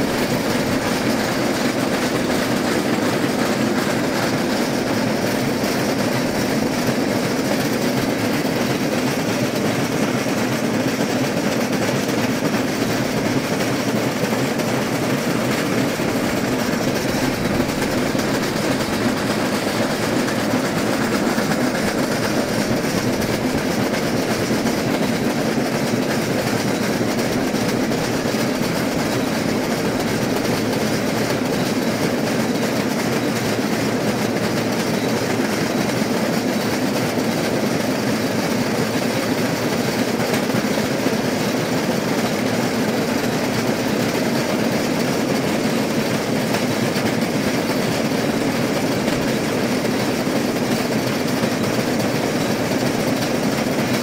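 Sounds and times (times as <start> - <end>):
rail vehicle rolling on track: 0.0 - 54.0.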